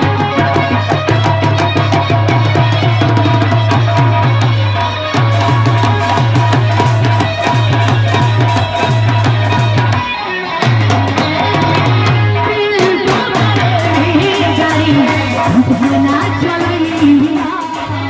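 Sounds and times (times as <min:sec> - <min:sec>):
fast hand drumming: 0:00.0 - 0:18.0.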